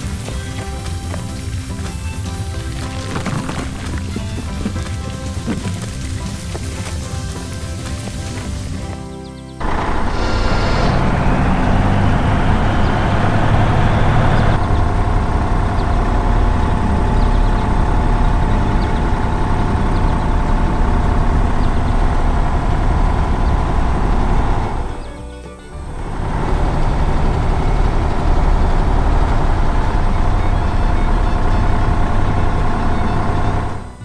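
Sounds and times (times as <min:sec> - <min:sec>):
diesel engine deep rumble: 0:00.0 - 0:34.0.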